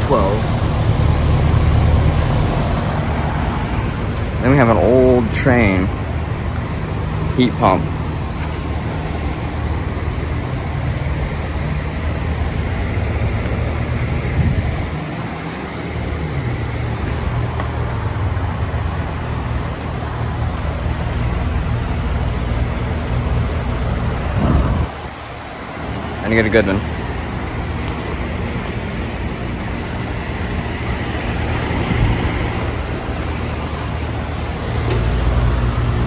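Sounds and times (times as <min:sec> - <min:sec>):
fan air rushing: 0:00.0 - 0:36.0
heat pump humming: 0:00.0 - 0:36.0.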